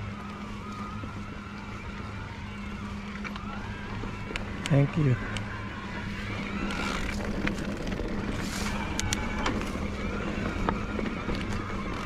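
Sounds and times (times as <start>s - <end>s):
bike riding noise: 0.0s - 12.0s
electric bike motor humming: 0.0s - 12.0s.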